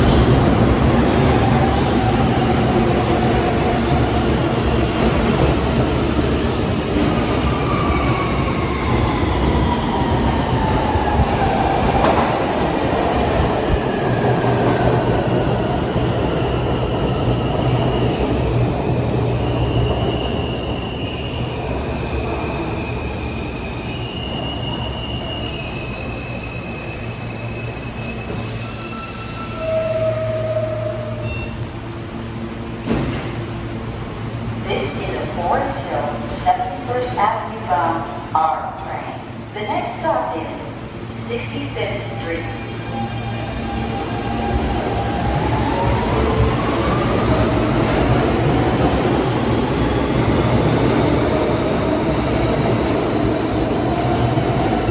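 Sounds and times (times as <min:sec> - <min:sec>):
subway train wheel and rail noise: 0:00.0 - 0:54.9.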